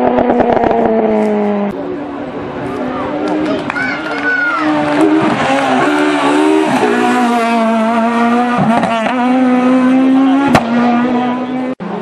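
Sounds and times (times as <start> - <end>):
rally car engine at high revs: 0.0 - 3.7, 4.5 - 12.0.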